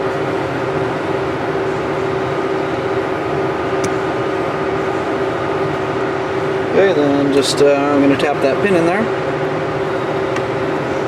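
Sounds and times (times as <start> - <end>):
mechanical drone with low hum: 0.0 - 11.0.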